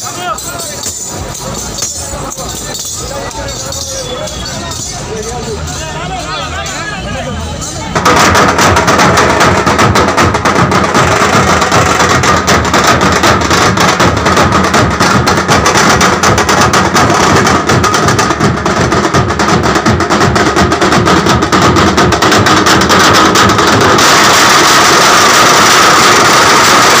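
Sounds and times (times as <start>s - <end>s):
music with fast dense drumming: 0.0s - 27.0s.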